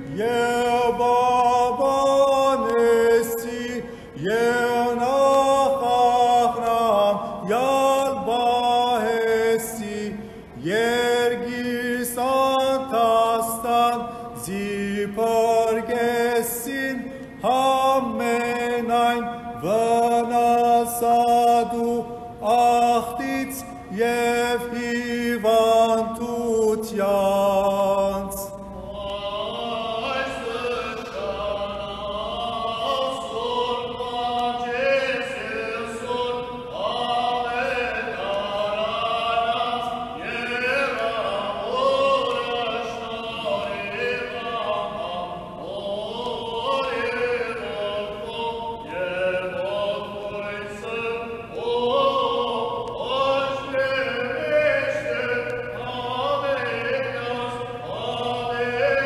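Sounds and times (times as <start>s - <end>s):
choir chanting slow melody: 0.0s - 59.0s.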